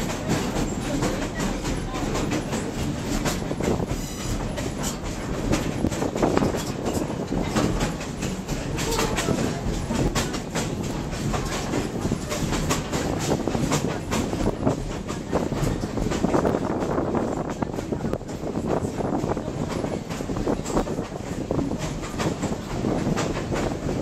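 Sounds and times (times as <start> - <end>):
train car rumbling on track: 0.0 - 24.0
wheels clacking and rattling: 0.0 - 24.0.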